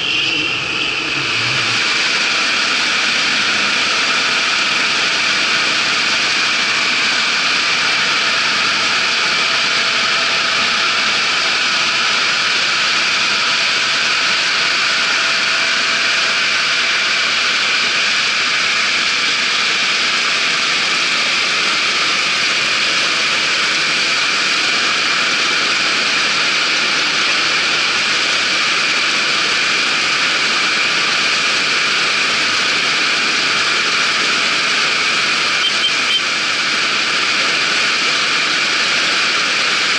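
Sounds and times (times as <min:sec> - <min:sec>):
combine harvester running: 0:00.0 - 0:39.9
faint high whine: 0:00.0 - 0:39.9.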